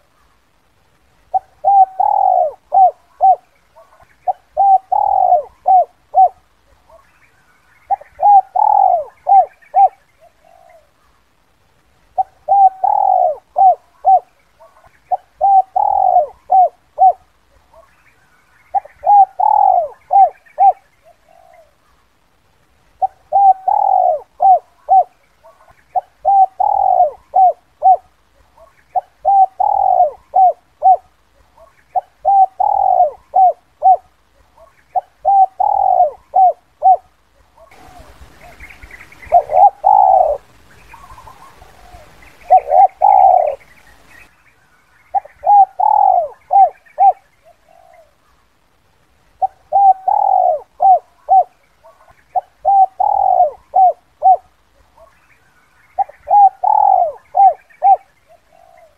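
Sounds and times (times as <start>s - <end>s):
faint small birds chirping: 0.0s - 58.9s
dove cooing: 1.3s - 11.1s, 12.1s - 18.1s, 18.7s - 22.0s, 22.9s - 44.2s, 45.1s - 48.4s, 49.4s - 55.3s, 55.9s - 58.9s.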